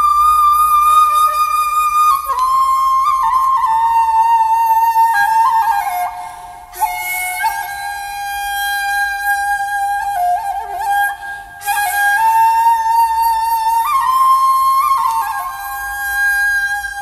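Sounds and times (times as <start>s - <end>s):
slow flute-like melody: 0.0s - 17.0s.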